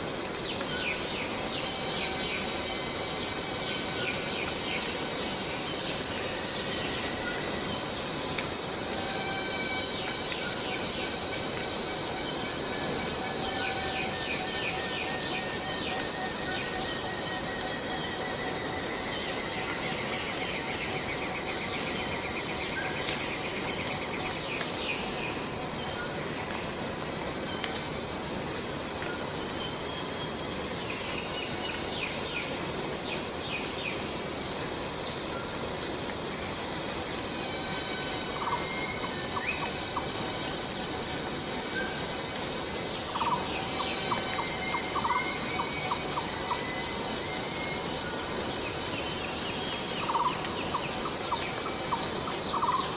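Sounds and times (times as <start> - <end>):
fast ticking insect trill: 0.0 - 52.9
insect chorus buzzing: 0.0 - 52.9.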